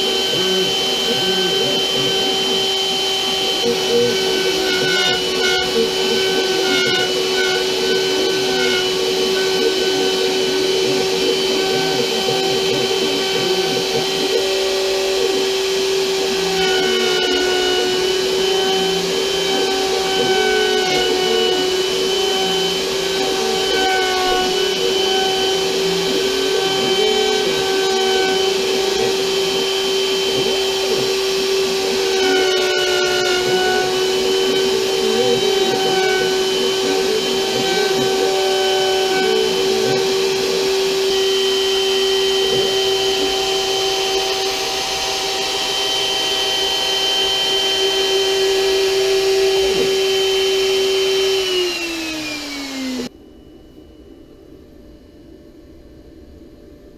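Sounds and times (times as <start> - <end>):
rough cutting noise: 0.0 - 53.1
router spindle whining: 0.0 - 53.2.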